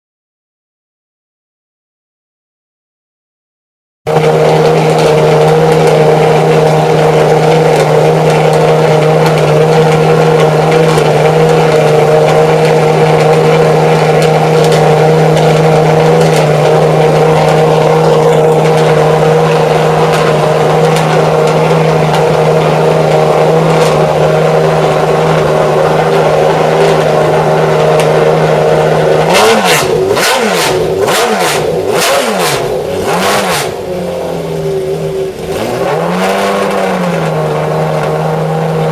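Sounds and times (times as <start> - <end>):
car engine idling: 4.1 - 38.9
engine revving: 4.1 - 38.9.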